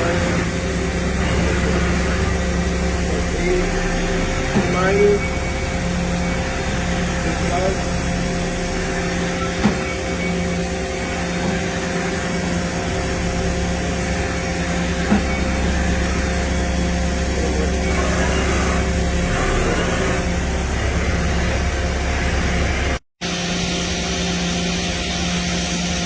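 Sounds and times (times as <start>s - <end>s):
machine hiss: 0.0s - 26.0s
machining center humming and whining: 0.0s - 26.0s.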